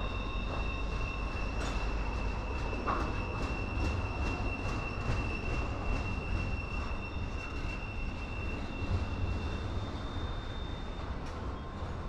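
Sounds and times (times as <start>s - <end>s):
freight train rumbling: 0.0s - 12.0s
high wheel squeal: 0.0s - 12.0s.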